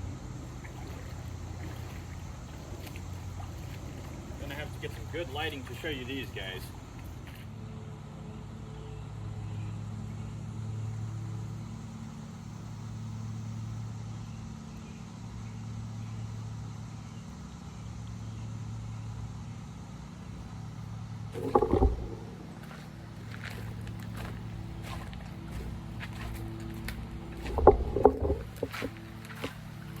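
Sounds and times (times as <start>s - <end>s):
low motor-like hum: 0.0s - 30.0s.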